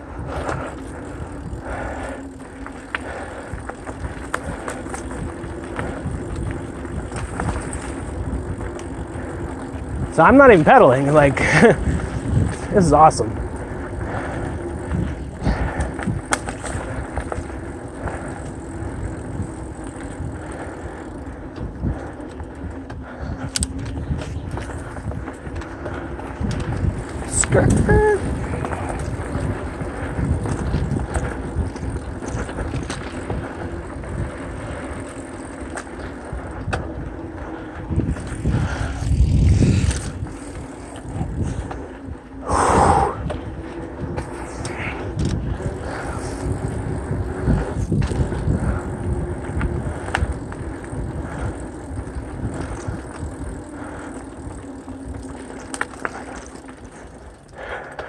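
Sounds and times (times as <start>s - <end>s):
bike clattering over bumps: 0.0s - 42.4s, 43.2s - 58.0s
bike tyres rumbling on dirt: 0.0s - 58.0s.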